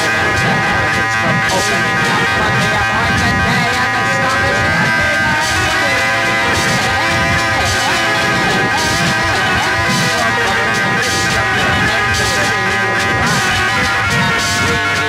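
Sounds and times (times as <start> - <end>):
droning lo-fi music: 0.0 - 15.0
swooping pitched line: 0.0 - 15.0.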